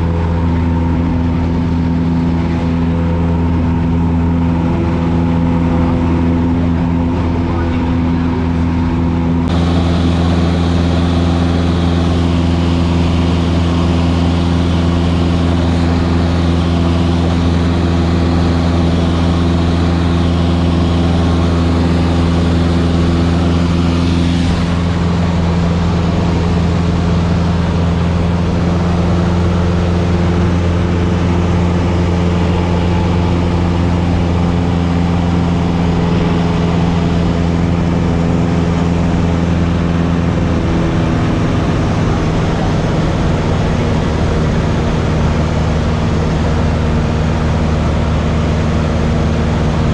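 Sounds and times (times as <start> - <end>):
propeller plane engine in flight: 0.0 - 49.9.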